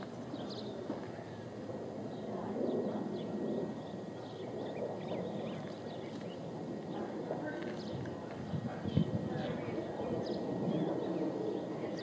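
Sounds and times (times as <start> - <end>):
low background rush: 0.0 - 12.0.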